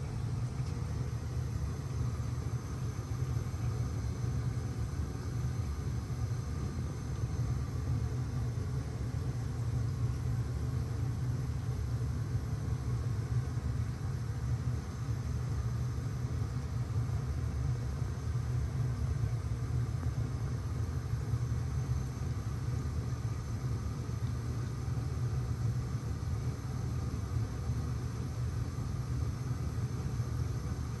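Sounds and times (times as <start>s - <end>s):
aquarium pumps humming: 0.0s - 31.0s.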